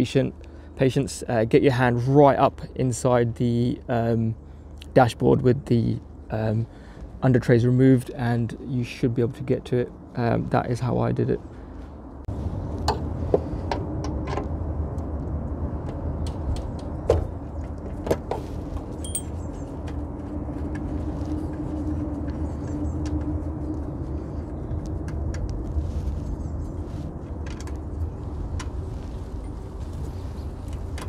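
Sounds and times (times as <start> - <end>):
steady low rumble: 0.2 - 31.0.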